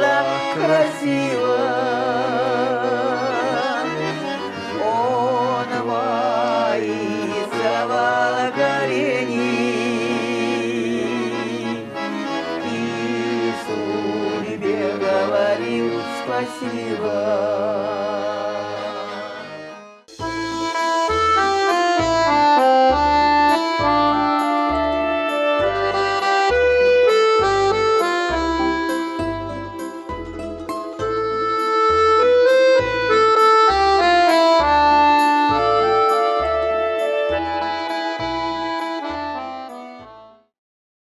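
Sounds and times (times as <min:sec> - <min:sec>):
button accordion folk melody: 0:00.0 - 0:40.6.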